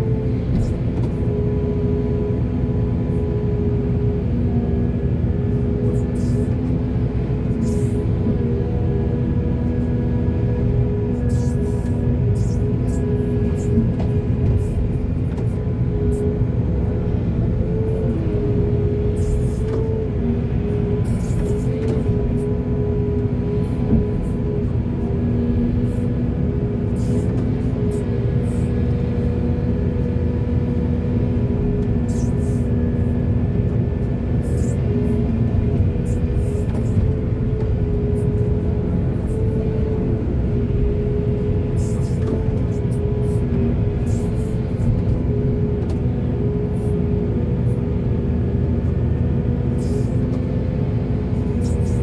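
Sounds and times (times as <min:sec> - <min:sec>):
excavator diesel engine running: 0:00.0 - 0:52.0
steady whine: 0:05.6 - 0:47.5.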